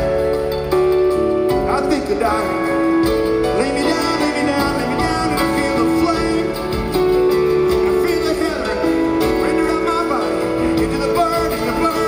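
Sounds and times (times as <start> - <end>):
bass guitar: 0.0 - 12.0
drums: 0.0 - 12.0
guitars: 0.0 - 12.0
man singing lead vocal: 1.6 - 12.0.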